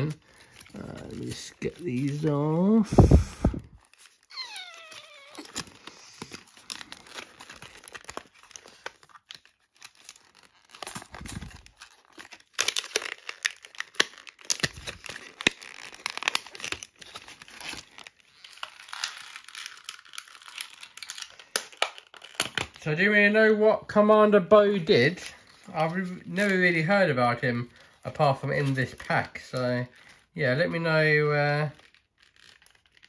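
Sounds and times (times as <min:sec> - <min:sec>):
plastic packaging crackling: 0:00.0 - 0:33.0.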